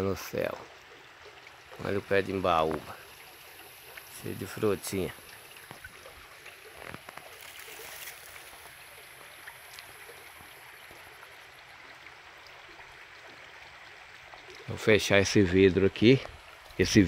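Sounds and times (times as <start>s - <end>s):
water trickling over rock: 0.0s - 17.0s.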